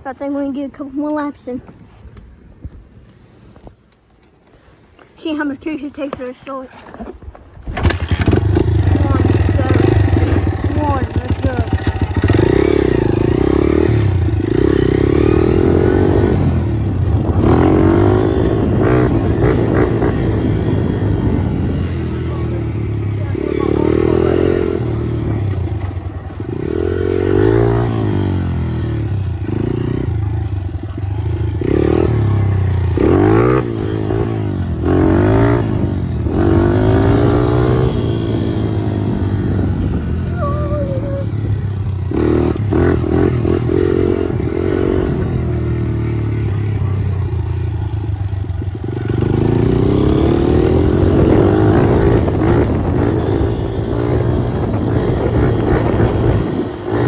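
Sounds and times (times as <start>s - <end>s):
dirt bike engine revving: 7.7s - 57.0s.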